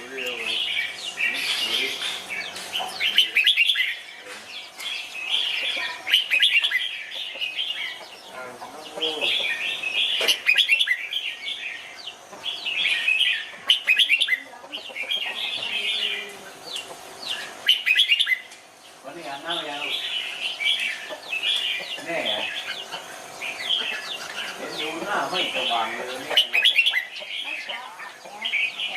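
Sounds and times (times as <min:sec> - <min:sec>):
bird warbling song: 0:00.0 - 0:28.9.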